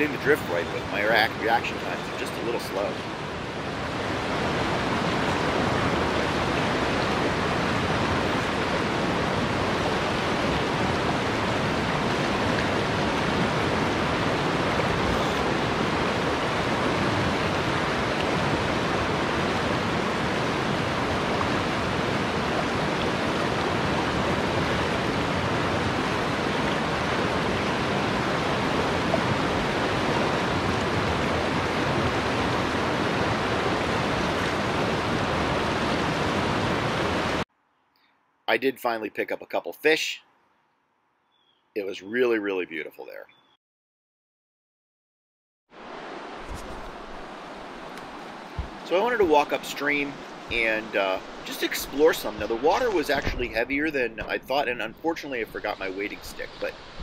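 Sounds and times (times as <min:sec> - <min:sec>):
river rushing over rocks: 0:00.0 - 0:37.4, 0:45.8 - 0:57.0.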